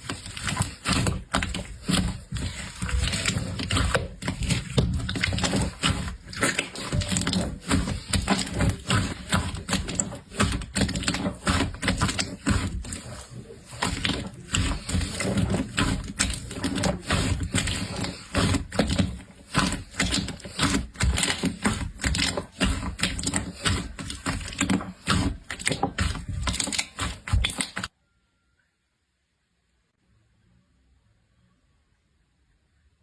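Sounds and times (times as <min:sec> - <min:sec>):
slime squished by hand: 0:00.0 - 0:27.9.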